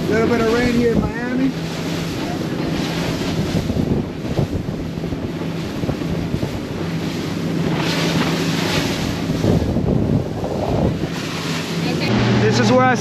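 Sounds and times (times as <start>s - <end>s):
outboard engine drone: 0.0s - 13.0s
water hissing along hull: 0.0s - 13.0s
wind buffeting microphone: 0.0s - 13.0s.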